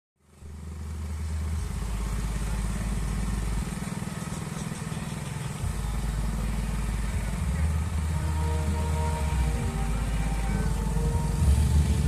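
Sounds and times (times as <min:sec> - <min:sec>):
motorcycle engine running: 0:00.2 - 0:12.0
deep bass from loudspeakers: 0:00.4 - 0:12.0.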